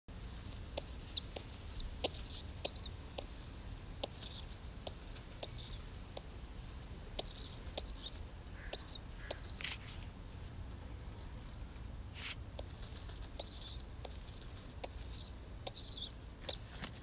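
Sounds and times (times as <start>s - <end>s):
baby pigeon peeping: 0.1s - 10.0s, 12.2s - 17.0s.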